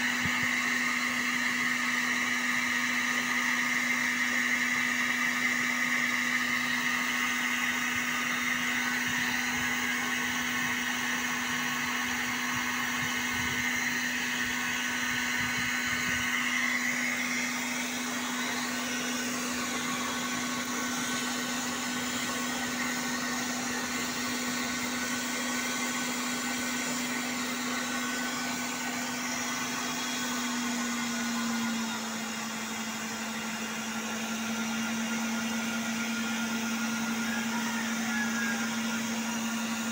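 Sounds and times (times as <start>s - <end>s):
electric blower fan humming: 0.0s - 39.9s.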